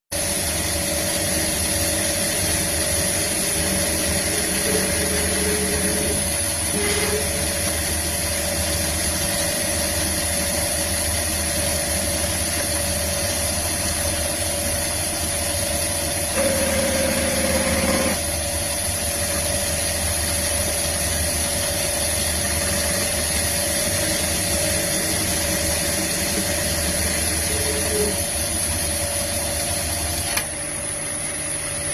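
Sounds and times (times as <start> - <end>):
high machine whine: 0.2 - 31.9
lathe machine hum: 0.2 - 31.9.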